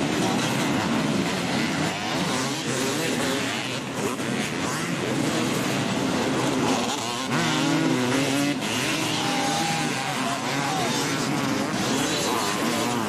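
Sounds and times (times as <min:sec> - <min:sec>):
dirt bike engines revving: 0:00.0 - 0:13.0
dirt bike passing close: 0:00.0 - 0:13.0.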